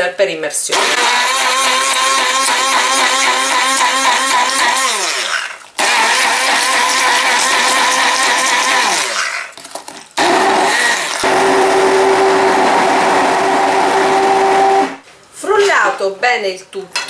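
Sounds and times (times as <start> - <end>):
immersion blender whirring: 0.7 - 9.6, 10.2 - 15.0.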